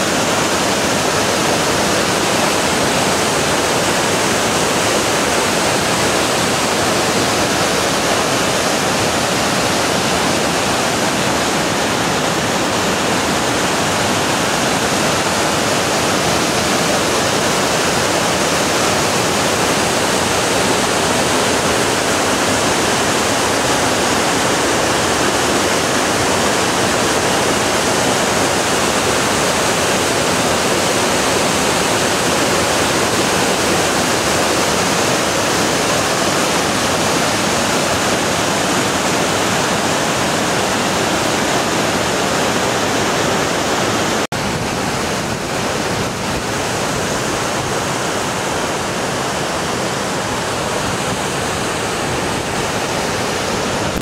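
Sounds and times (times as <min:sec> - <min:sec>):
whitewater rushing over boulders: 0:00.0 - 0:54.0.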